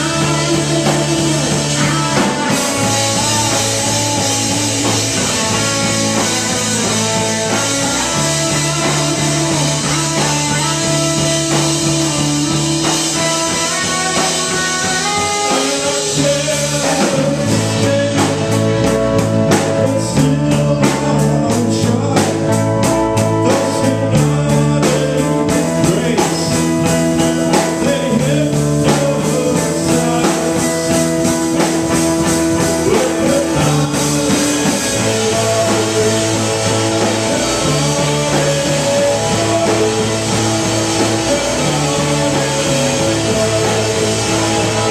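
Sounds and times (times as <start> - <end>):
fast drum hits: 0.0 - 22.4, 23.4 - 44.9
live rock band playing: 0.0 - 44.9.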